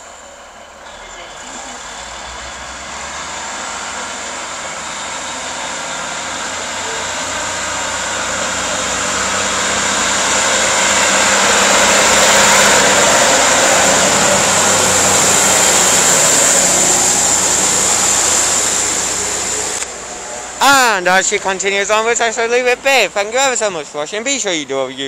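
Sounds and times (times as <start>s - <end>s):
steady high whine: 0.0s - 24.8s
diesel train pulling away: 0.0s - 25.0s.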